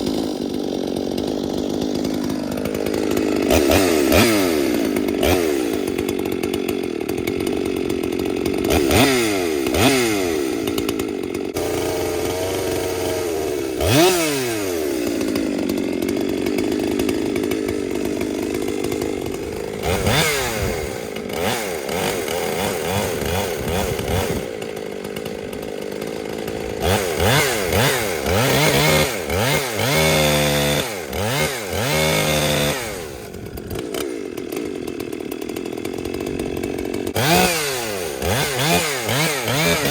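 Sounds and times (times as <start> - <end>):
chainsaw running at high revs: 0.0 - 39.9
chainsaw throttle blips: 0.0 - 39.9.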